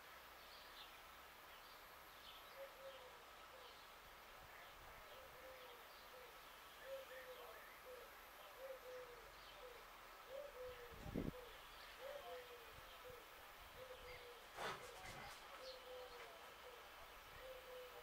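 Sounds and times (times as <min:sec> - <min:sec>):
faint small birds chirping: 0:00.0 - 0:18.0.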